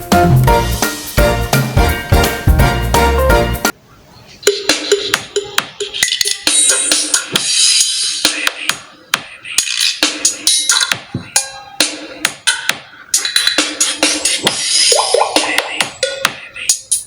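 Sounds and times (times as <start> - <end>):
drum-heavy music through phone speaker: 0.0 - 3.8, 4.4 - 17.0.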